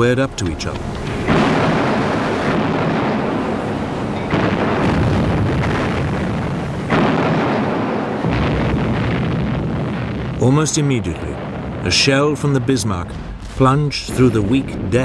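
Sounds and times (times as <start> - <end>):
heavy gunfire blasts: 1.1 - 15.0.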